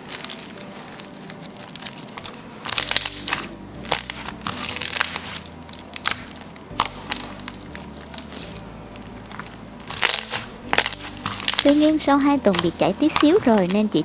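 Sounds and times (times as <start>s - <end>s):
slime squeezed crackling and popping: 0.0s - 14.0s.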